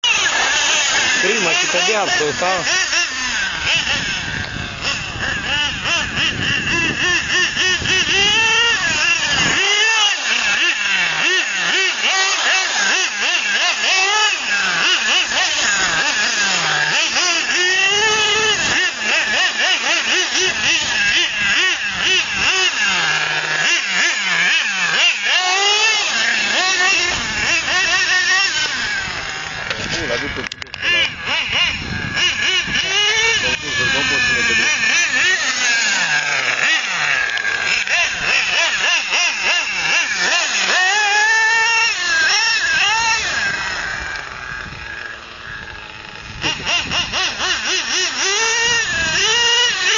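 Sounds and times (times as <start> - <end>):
model engine whining at high revs: 0.0 - 49.9.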